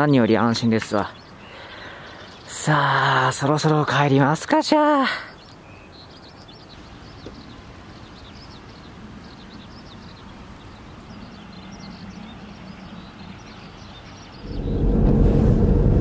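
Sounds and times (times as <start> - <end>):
small birds chirping: 0.0 - 14.8
steady background hiss: 0.1 - 15.2.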